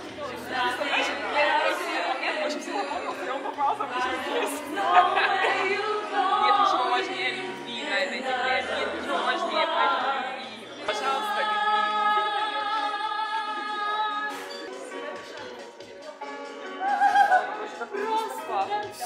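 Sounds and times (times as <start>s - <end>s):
voices singing a cappella: 0.0s - 16.2s.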